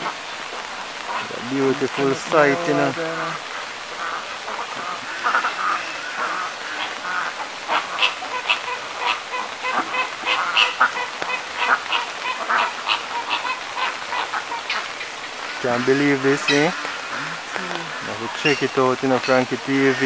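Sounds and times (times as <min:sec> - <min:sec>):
flamingos honking: 0:00.0 - 0:20.0.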